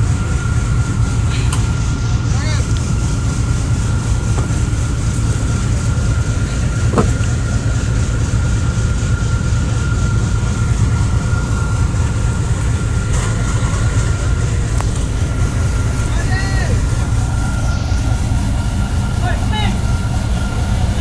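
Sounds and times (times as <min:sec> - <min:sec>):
ferry engines low rumble: 0:00.0 - 0:21.0
thin high whine: 0:00.0 - 0:21.0.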